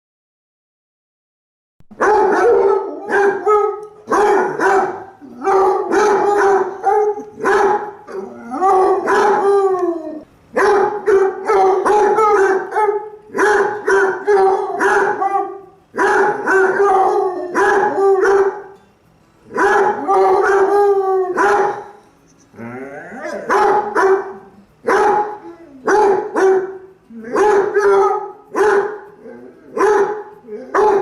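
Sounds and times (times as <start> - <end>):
dog baying: 2.0 - 18.8, 19.5 - 22.0, 22.6 - 31.0
dog howling: 2.0 - 18.8, 19.6 - 22.0, 22.6 - 31.0.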